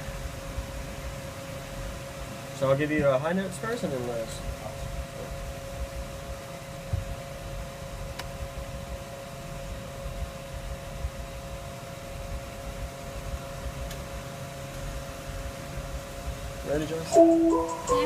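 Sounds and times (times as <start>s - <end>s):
car cabin rumble and hiss: 0.0s - 18.0s
constant whine: 0.0s - 18.0s.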